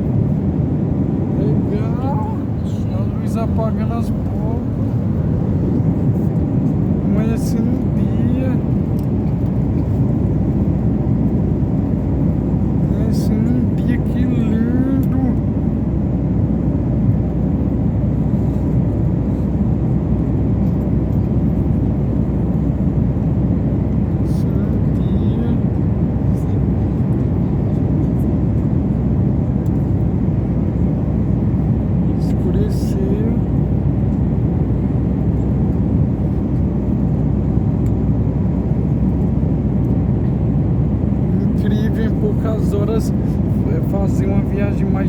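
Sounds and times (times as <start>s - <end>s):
airliner cabin engine rumble: 0.0s - 45.0s.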